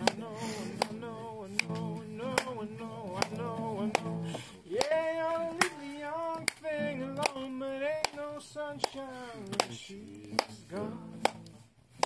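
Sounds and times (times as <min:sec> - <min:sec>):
person singing slow song: 0:00.0 - 0:11.6
guitar: 0:00.0 - 0:12.0.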